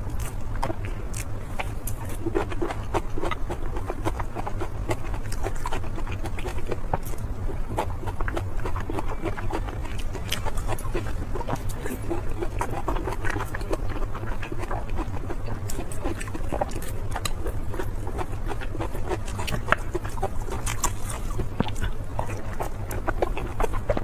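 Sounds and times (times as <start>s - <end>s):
wet chewing and mouth smacking: 0.0s - 24.0s.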